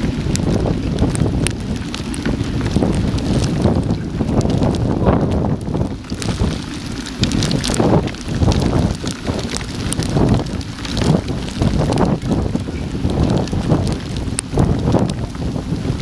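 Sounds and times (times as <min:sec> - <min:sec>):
rain ticks on camera: 0:00.0 - 0:16.0
wind buffeting microphone: 0:00.0 - 0:16.0.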